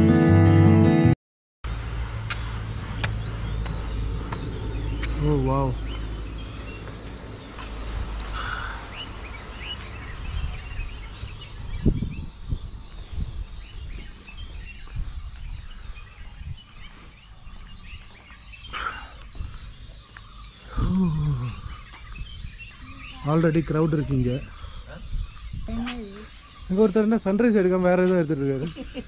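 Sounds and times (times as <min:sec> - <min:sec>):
small birds chirping: 0:01.7 - 0:29.0.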